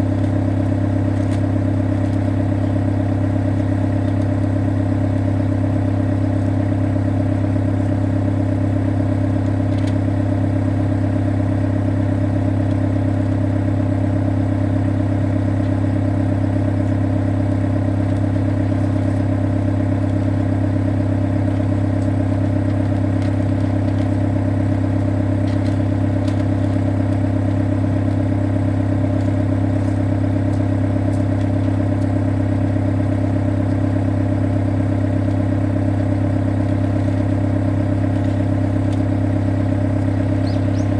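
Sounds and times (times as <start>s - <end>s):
excavator diesel engine droning: 0.0s - 40.9s.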